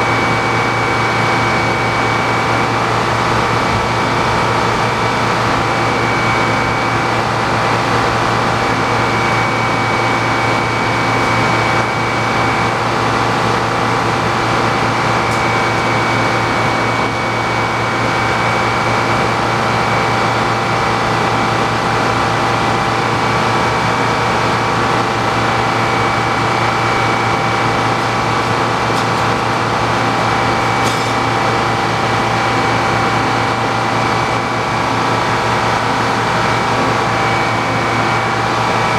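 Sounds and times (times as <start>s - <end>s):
sawmill machine drone: 0.0s - 38.9s
steady high whine: 0.0s - 38.9s.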